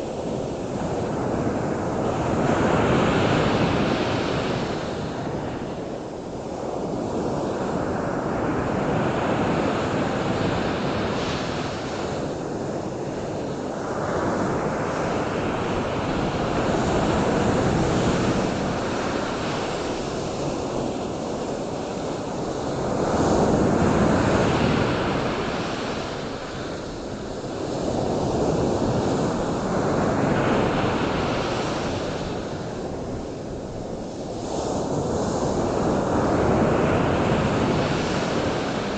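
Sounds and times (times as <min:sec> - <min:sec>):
ocean surf washing in: 0:00.0 - 0:38.9.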